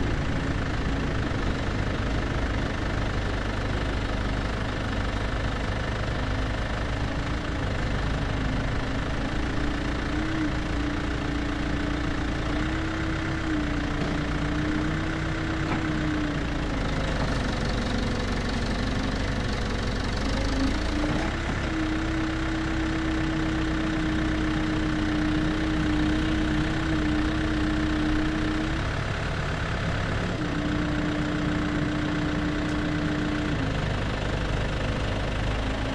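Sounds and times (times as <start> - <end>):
excavator diesel engine whining: 0.0 - 35.9.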